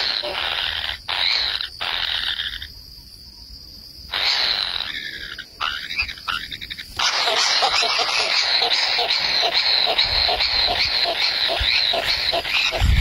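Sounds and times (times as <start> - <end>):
harsh rasping animal calls: 0.0 - 2.7, 4.1 - 13.0.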